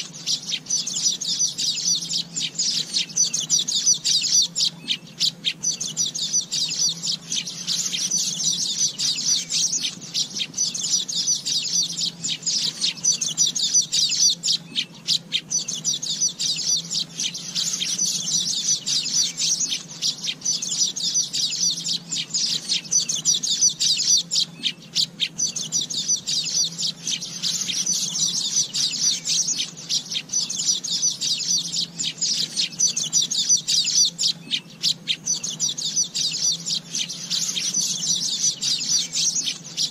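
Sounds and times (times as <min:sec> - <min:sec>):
bird chirps and trills: 0:00.0 - 0:39.9
faint low hum: 0:00.0 - 0:39.9.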